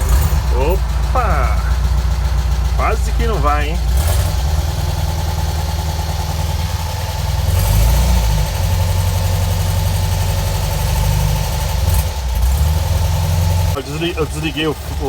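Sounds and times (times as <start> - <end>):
air-cooled car engine running: 0.0 - 15.0.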